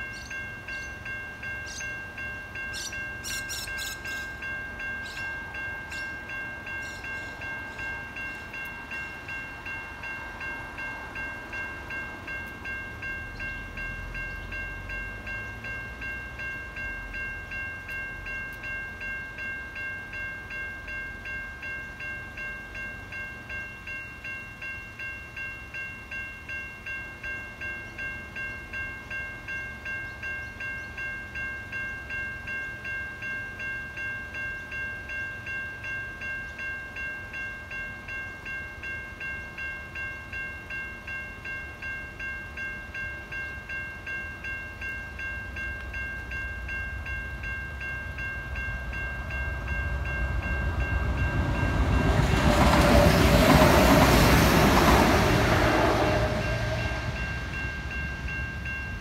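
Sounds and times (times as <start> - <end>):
diesel railcar passing: 0.0 - 59.0
level crossing bells ringing: 0.0 - 59.0.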